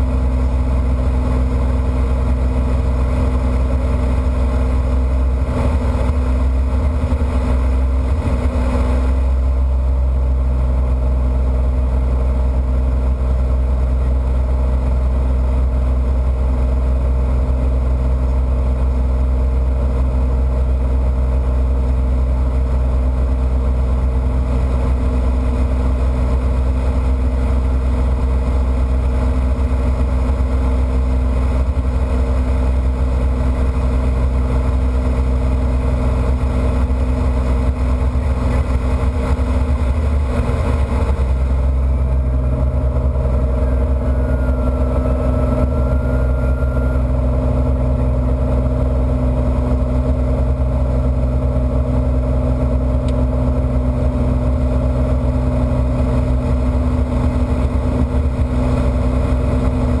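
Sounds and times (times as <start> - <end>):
propeller airplane engine drone: 0.0 - 60.0.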